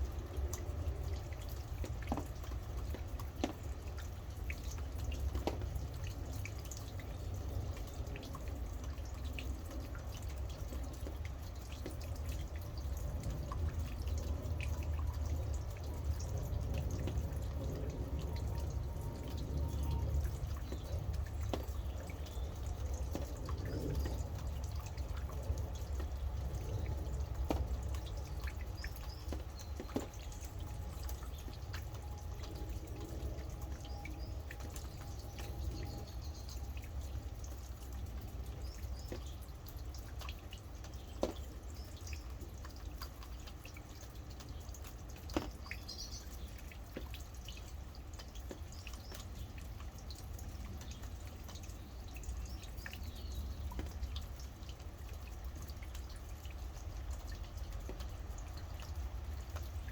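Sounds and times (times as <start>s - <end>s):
rain falling and dripping: 0.0s - 59.9s
raindrops ticking close by: 0.0s - 59.9s.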